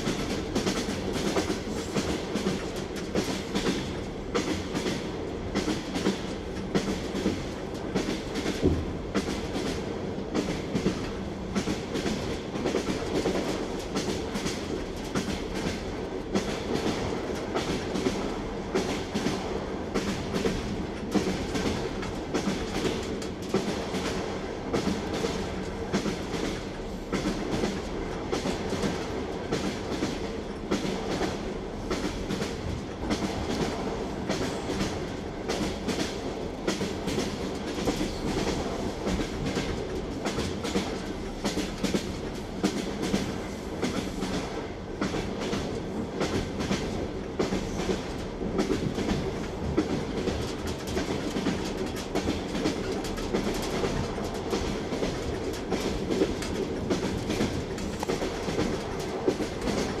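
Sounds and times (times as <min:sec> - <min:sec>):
railway carriage rumble: 0:00.0 - 1:00.0
train wheels clickety-clack: 0:00.0 - 1:00.0.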